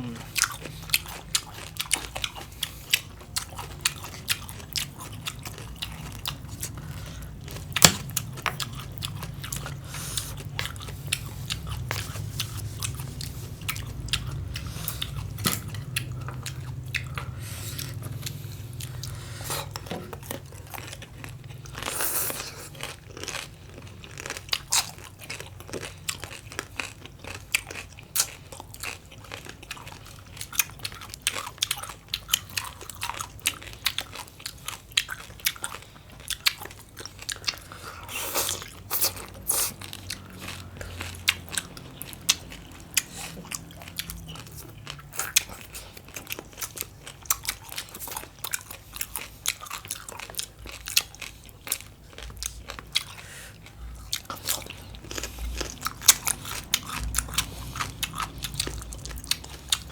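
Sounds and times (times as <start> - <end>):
crunchy salad chewing: 0.0 - 59.9.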